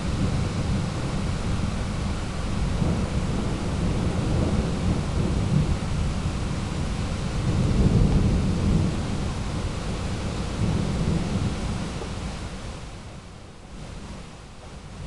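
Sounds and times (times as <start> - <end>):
rolling thunder: 0.0 - 12.1.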